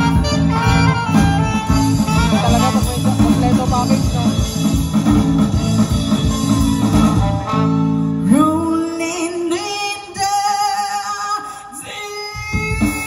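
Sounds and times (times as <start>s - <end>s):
live rock band playing: 0.0s - 11.4s, 12.1s - 13.0s.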